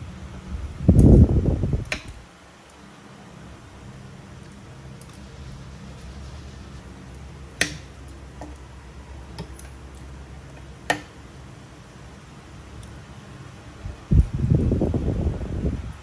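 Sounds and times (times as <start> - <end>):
fan wind rumble on microphone: 0.0 - 16.0.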